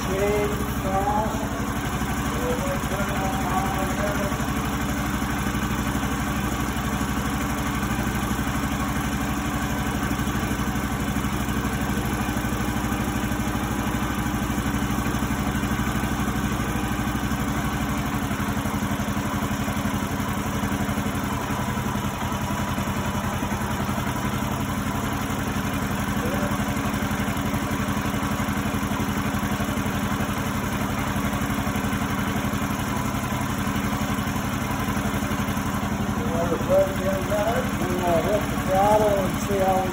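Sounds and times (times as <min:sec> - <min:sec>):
single-cylinder engine idling: 0:00.0 - 0:39.9.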